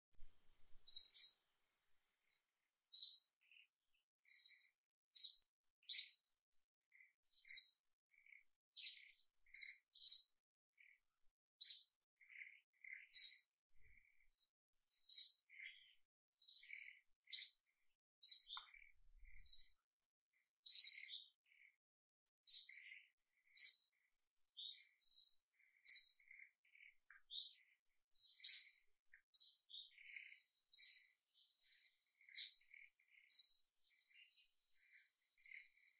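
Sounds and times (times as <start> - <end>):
bird chirping: 0.1 - 1.4, 2.0 - 21.8, 22.4 - 35.9.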